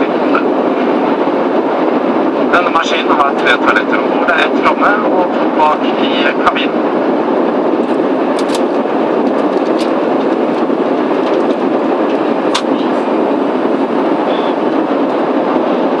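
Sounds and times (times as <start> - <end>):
airplane cabin rushing hum: 0.0 - 16.0.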